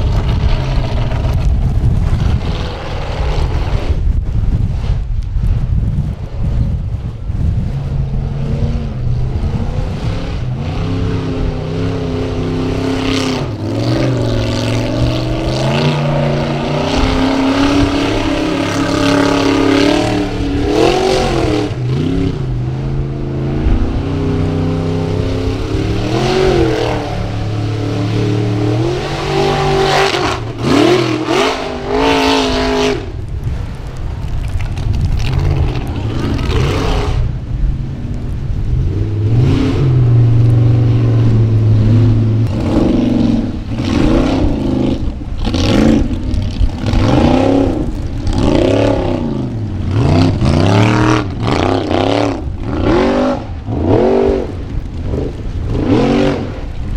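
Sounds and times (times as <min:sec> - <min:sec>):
buggy engine revving hard: 0:00.0 - 0:04.1, 0:07.8 - 0:33.2, 0:35.3 - 0:37.5, 0:38.7 - 0:56.9.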